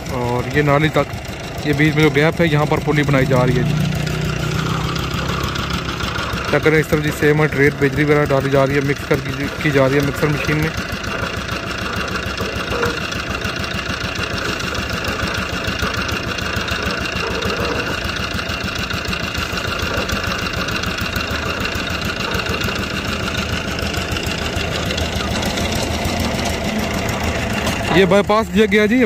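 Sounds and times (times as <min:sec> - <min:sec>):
concrete mixer engine running: 0:00.0 - 0:29.0.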